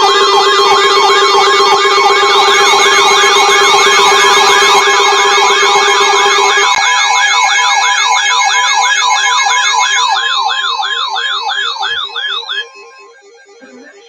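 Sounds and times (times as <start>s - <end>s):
electronic siren yelping: 0.0s - 14.0s.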